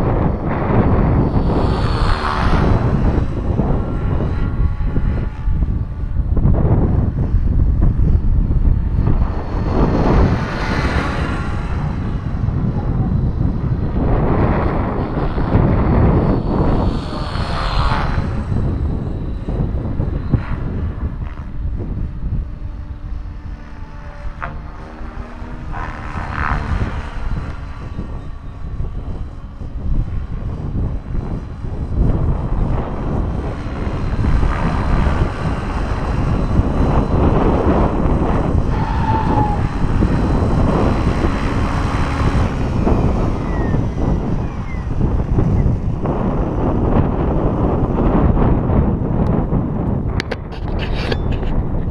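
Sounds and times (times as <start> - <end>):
rc helicopter rotor whirring: 0.0 - 51.9
wind buffeting microphone: 0.0 - 51.9.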